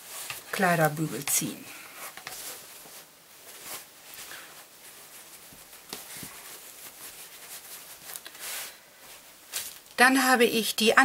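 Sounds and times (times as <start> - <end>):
faint fabric rustling: 0.0 - 10.6.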